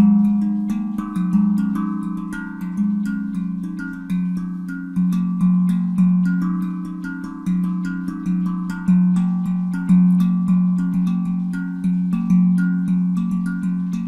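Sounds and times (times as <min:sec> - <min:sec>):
handpan played by hand: 0:00.0 - 0:14.0.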